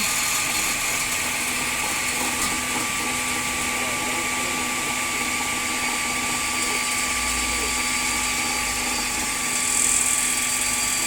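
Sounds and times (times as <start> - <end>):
table saw whining: 0.0 - 11.0.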